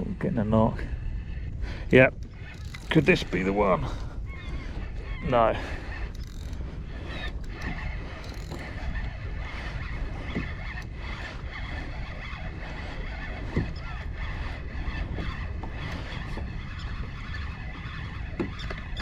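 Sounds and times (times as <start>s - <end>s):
water lapping against hull: 0.0s - 19.0s
wind on microphone: 0.0s - 19.0s.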